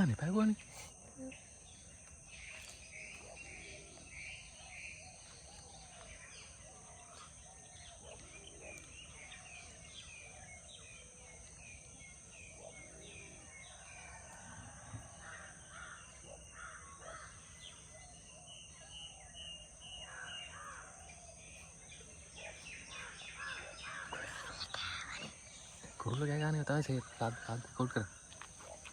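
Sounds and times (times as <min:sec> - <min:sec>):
birds chirping and cawing: 0:00.0 - 0:28.9.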